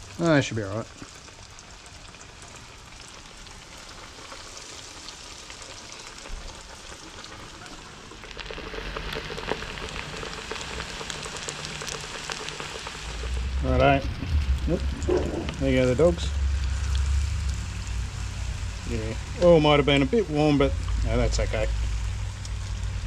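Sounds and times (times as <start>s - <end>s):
fish frying in hot oil: 0.0s - 23.0s.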